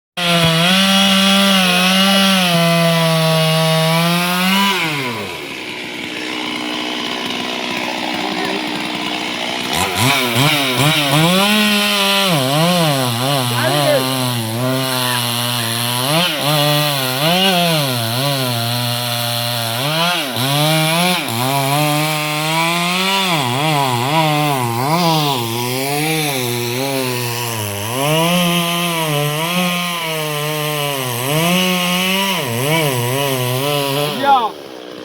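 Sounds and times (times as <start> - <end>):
chainsaw cutting wood: 0.2 - 35.0.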